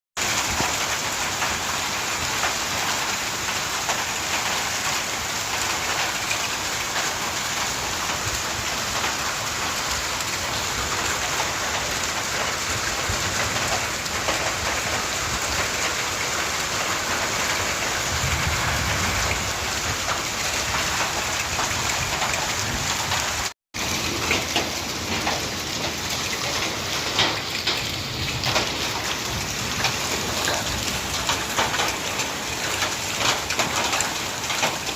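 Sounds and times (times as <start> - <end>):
heavy rain with hail: 0.2 - 34.9
sharp hail strikes: 0.2 - 34.9.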